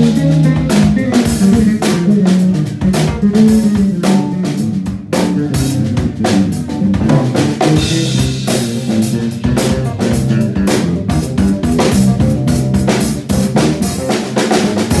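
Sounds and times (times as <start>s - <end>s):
drum and cymbal strikes: 0.0s - 15.0s
electric bass line: 0.0s - 15.0s
live band playing: 0.0s - 15.0s.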